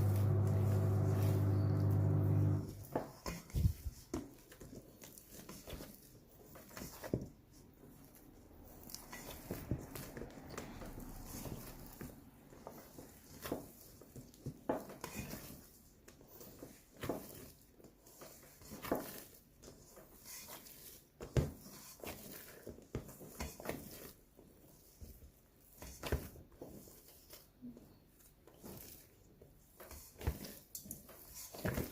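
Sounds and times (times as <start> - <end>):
dough squishing in bowl: 0.0 - 31.9.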